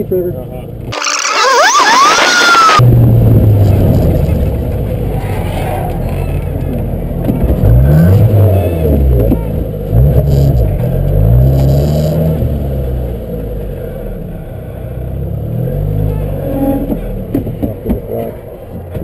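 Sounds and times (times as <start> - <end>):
car engine revving: 0.3 - 19.0.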